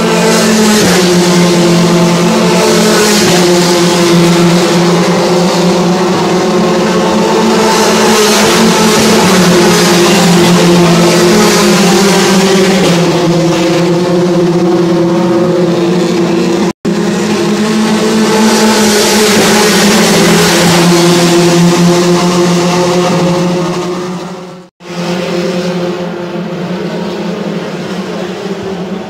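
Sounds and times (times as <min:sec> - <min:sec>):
racing car engine at high revs: 0:00.0 - 0:29.0.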